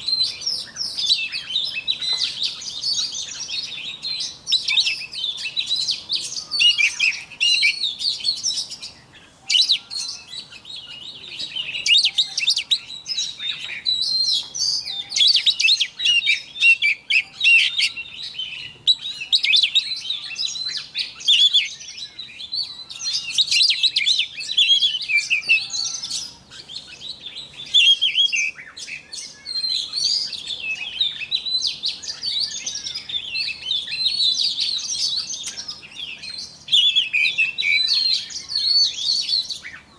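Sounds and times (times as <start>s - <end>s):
magpie-robin singing whistles and chirps: 0.0s - 39.9s.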